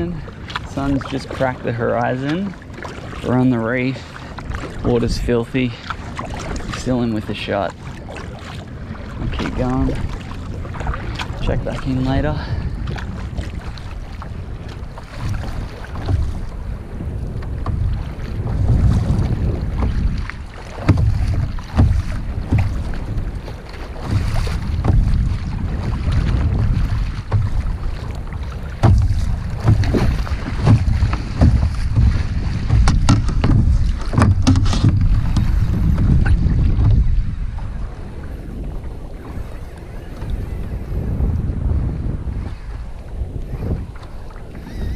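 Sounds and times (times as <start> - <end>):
splashes and knocks: 0.0 - 16.6, 17.2 - 37.8
water sloshing around kayak: 0.0 - 44.9
wind buffeting microphone: 0.0 - 44.9.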